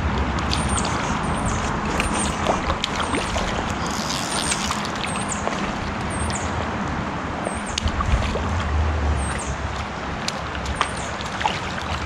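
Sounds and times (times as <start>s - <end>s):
flowing creek water: 0.0s - 12.0s.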